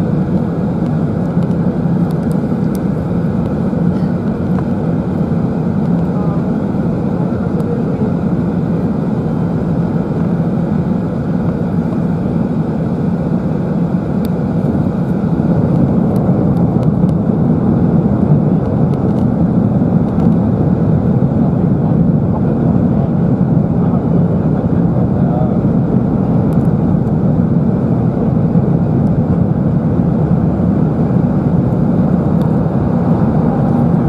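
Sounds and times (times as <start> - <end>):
airplane cabin noise: 0.0 - 34.0.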